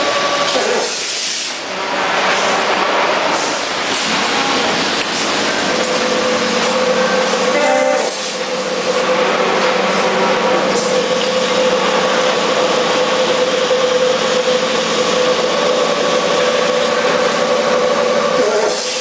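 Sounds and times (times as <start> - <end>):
assembly line machinery din: 0.0 - 19.0
short machine whine: 1.9 - 19.0.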